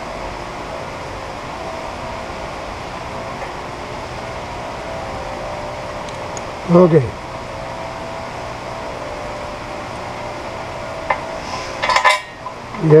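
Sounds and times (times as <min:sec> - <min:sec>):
faint hum: 0:00.0 - 0:13.0
steady background noise: 0:00.0 - 0:13.0.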